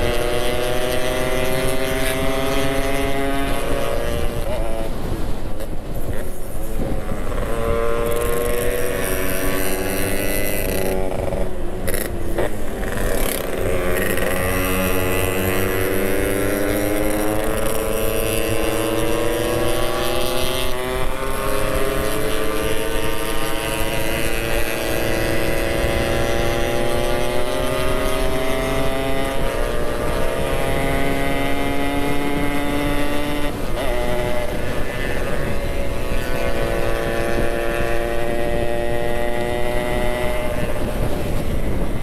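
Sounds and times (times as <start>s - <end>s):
motorcycle engine running: 6.3s - 42.0s.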